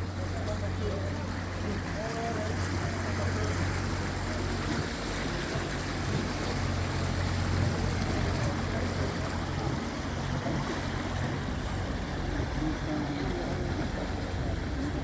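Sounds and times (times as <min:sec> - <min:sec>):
speedboat engine humming: 0:00.0 - 0:15.0
water and wind rushing: 0:00.0 - 0:15.0.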